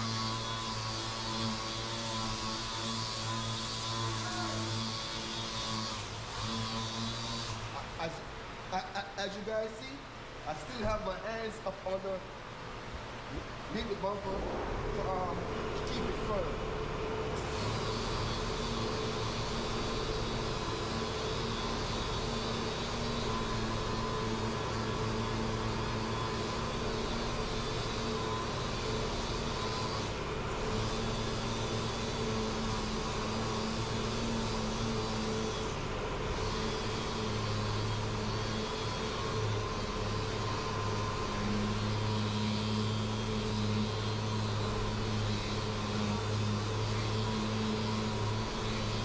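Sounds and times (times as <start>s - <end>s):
orbital sander running: 0.0s - 9.7s, 14.9s - 49.0s.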